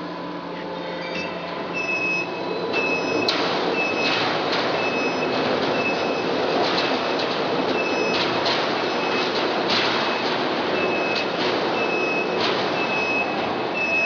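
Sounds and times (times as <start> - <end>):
machine hum and rumble: 0.0 - 14.0.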